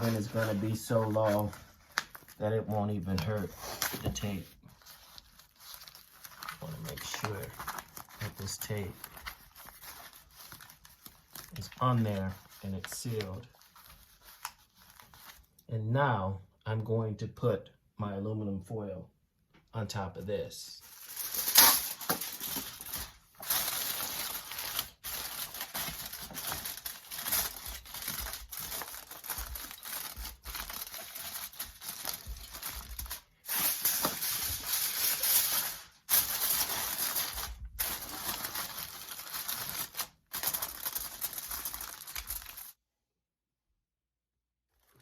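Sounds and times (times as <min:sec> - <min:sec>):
aluminum foil crinkling and tearing: 0:00.0 - 0:15.6, 0:20.8 - 0:42.8.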